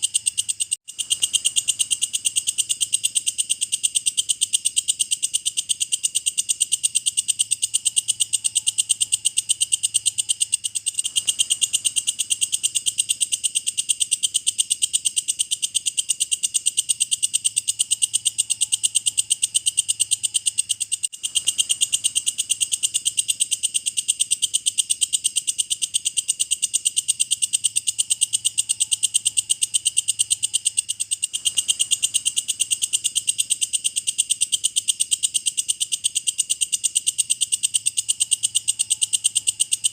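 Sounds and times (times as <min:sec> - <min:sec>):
grasshopper buzzing chirps: 0:00.0 - 0:39.9.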